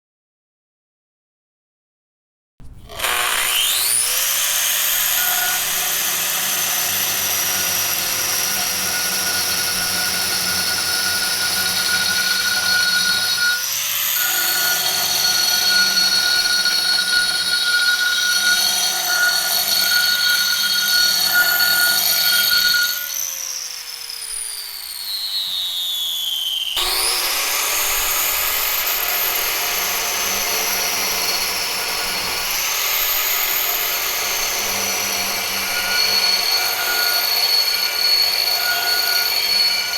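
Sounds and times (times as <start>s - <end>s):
angle grinder whining: 2.6s - 39.9s.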